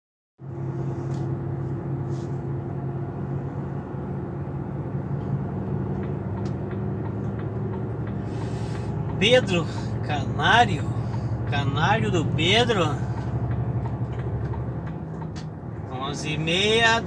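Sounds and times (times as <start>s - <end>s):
vehicle engine and road noise: 0.4s - 17.0s.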